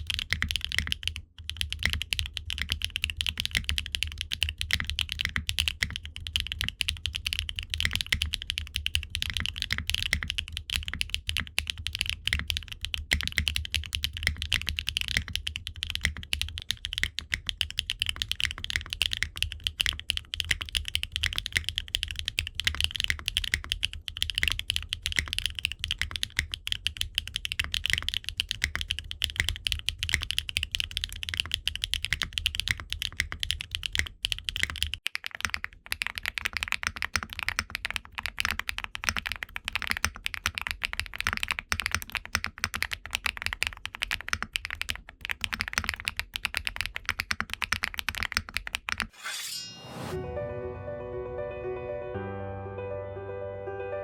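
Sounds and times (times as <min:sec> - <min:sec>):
typing on mechanical keyboard: 0:00.0 - 0:49.1.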